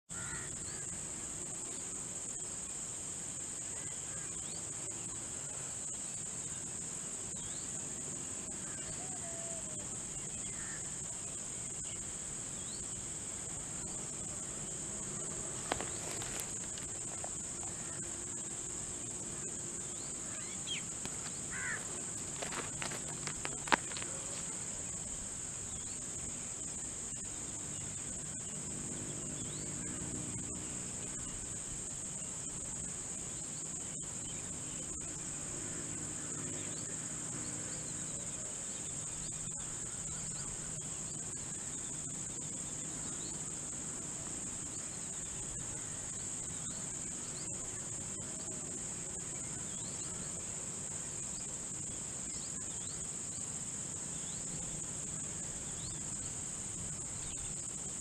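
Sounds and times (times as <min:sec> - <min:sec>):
insect chorus drone: 0:00.1 - 0:58.0.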